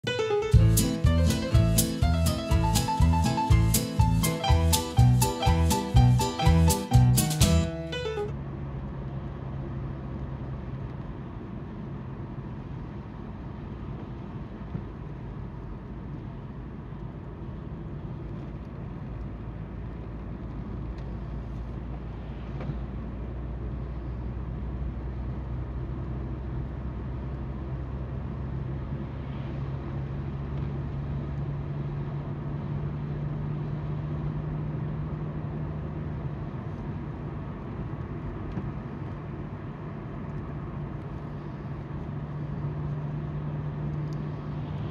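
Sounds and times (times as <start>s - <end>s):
car engine hum: 0.0s - 44.9s.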